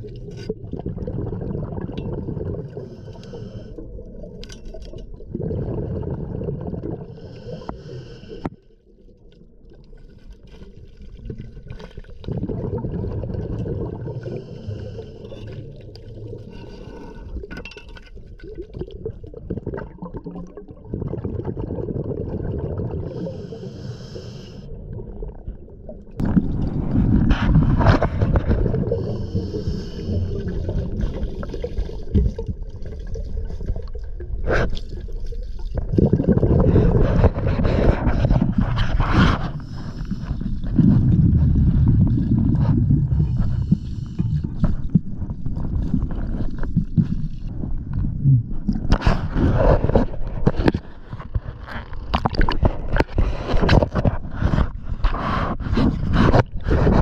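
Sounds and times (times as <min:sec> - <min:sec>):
underwater rumbling and gurgling: 0:00.0 - 0:57.0.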